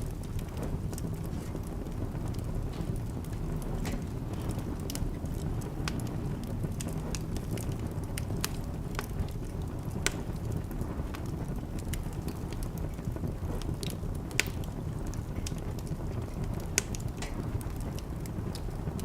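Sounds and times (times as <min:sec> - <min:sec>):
burning logs popping: 0:00.0 - 0:19.0
fire rumbling and crackling: 0:00.0 - 0:19.0.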